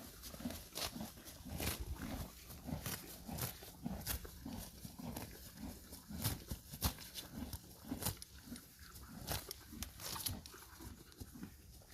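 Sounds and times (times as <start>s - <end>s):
horse chewing: 0.0s - 11.9s.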